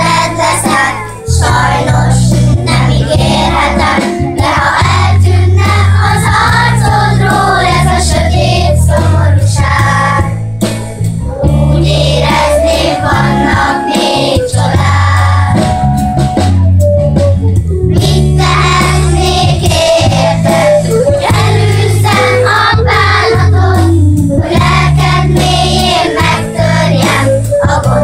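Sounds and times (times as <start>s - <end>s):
children's choir singing: 0.0s - 10.5s, 11.4s - 15.8s, 18.0s - 28.0s
instrumental accompaniment with bass: 0.0s - 28.0s.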